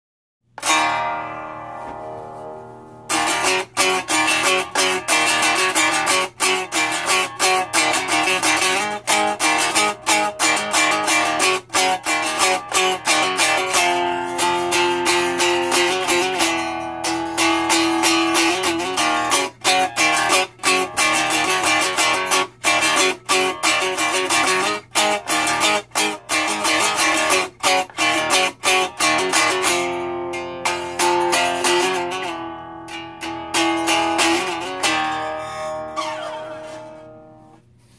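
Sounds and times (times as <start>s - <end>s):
acoustic guitar blues riff: 0.6s - 37.7s.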